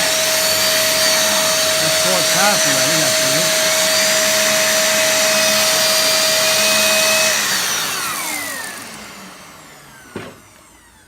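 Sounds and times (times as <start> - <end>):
vacuum cleaner motor spinning down: 0.0 - 11.0.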